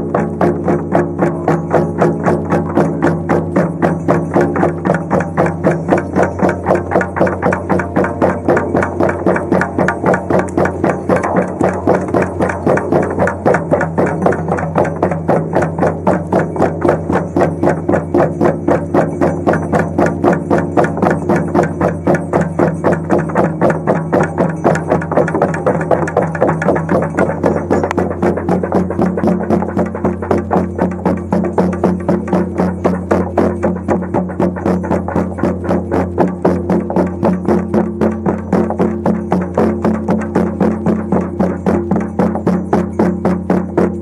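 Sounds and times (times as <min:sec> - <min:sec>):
frame drums beating: 0:00.0 - 0:44.0.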